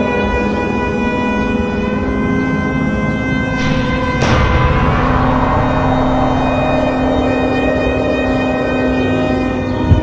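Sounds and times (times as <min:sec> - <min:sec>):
eerie droning music: 0:00.0 - 0:10.0.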